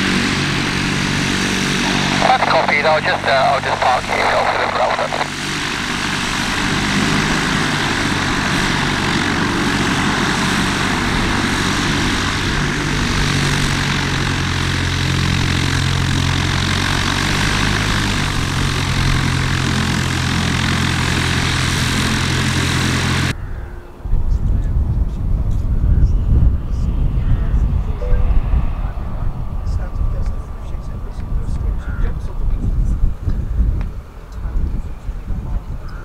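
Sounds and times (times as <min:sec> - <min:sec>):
propeller aircraft engine running: 0:00.0 - 0:23.8, 0:27.7 - 0:36.0.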